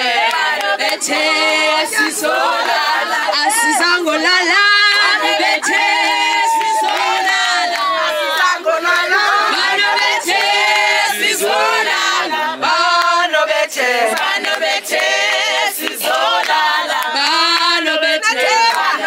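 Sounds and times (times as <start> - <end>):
group singing unaccompanied: 0.0 - 19.0.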